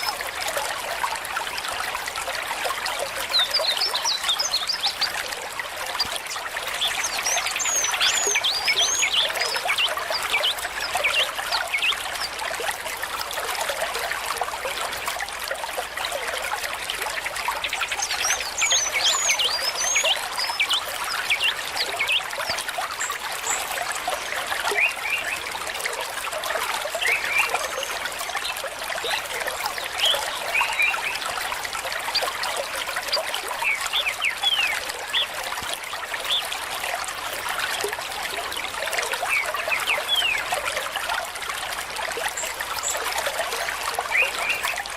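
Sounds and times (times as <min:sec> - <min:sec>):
stream trickling and babbling: 0:00.0 - 0:44.9.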